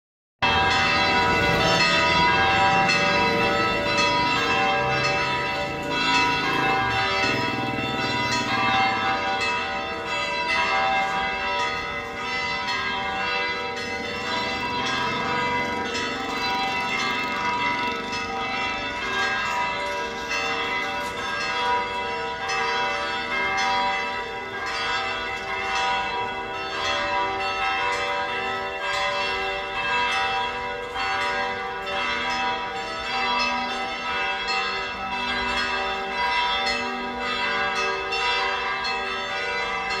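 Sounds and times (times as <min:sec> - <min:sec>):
church bells pealing: 0:00.4 - 0:40.0.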